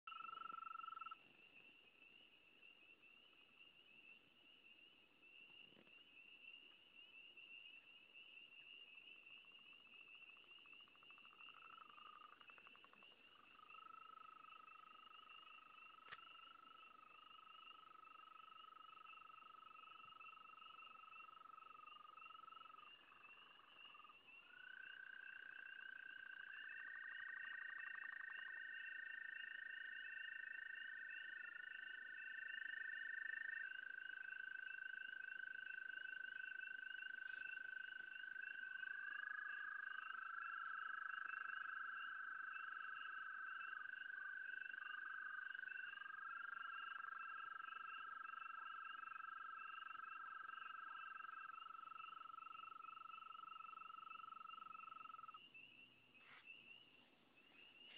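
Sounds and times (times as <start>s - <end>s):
frogs trilling: 0.0s - 57.9s.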